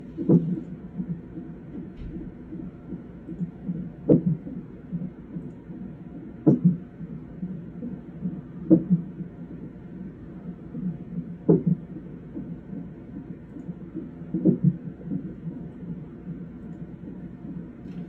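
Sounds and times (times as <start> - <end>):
fast fetal heartbeat: 0.0 - 18.0.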